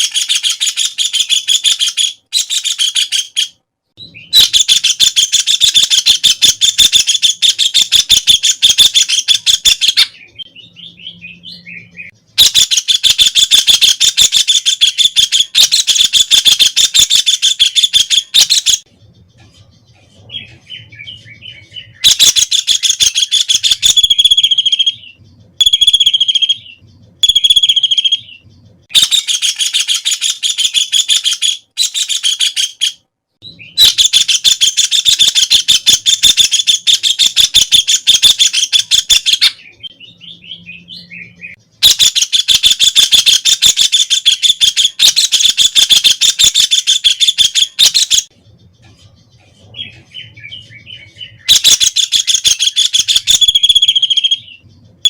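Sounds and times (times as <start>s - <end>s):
shrill bird notes: 0.0s - 55.0s.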